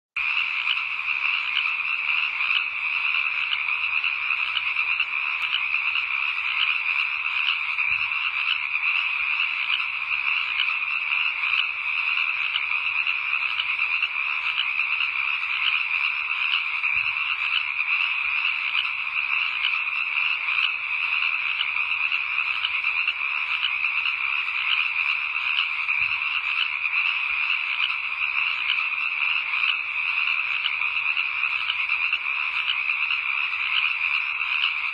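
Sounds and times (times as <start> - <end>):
chorus of frogs calling: 0.2 - 34.9.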